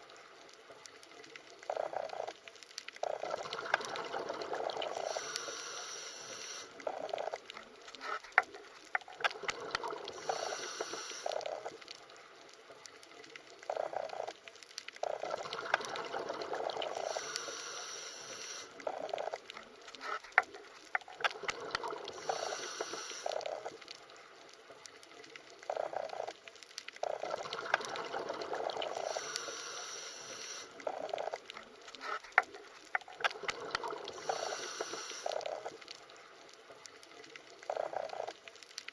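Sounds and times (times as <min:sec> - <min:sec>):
underwater bubbling and gurgling: 0:00.0 - 0:38.9.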